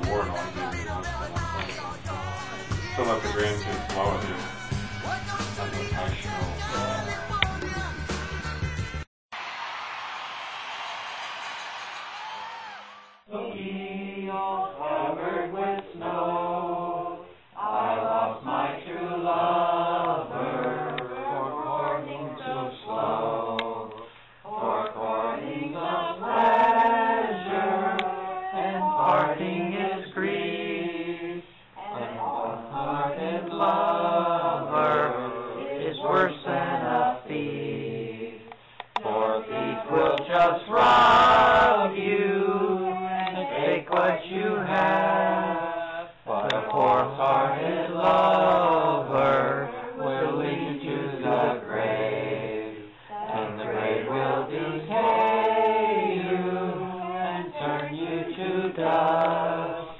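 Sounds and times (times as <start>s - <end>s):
group singing together: 0.0s - 8.3s, 10.2s - 59.9s.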